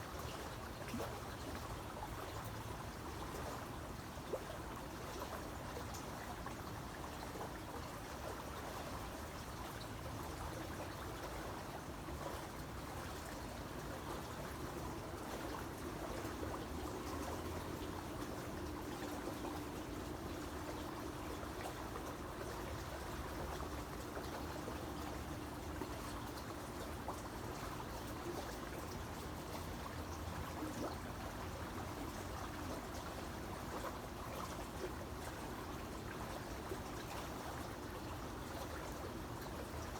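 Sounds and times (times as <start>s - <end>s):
creek water trickling over stones: 0.0s - 39.9s
faint steady hum: 0.0s - 39.9s.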